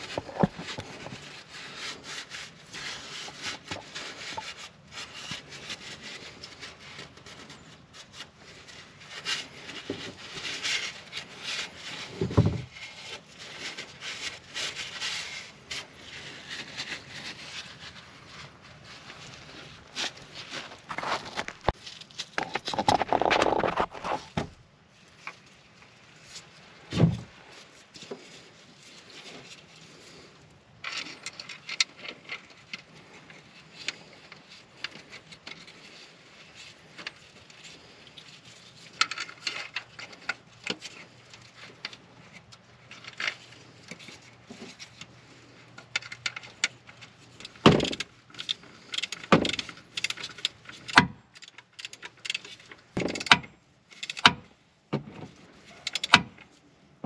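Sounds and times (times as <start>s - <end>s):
hand tools clinking and scraping: 0.0s - 24.4s, 25.0s - 54.4s, 55.3s - 56.5s.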